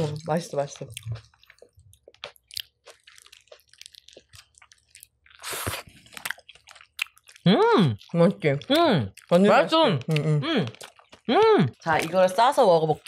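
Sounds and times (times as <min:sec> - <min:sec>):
close chewing with mouth smacks: 0:00.0 - 0:13.0.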